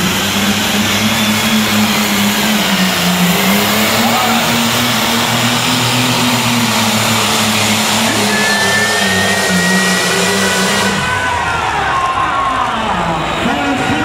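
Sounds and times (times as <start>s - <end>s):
thin whine: 0.0s - 11.5s
engine droning at high revs: 0.0s - 14.0s.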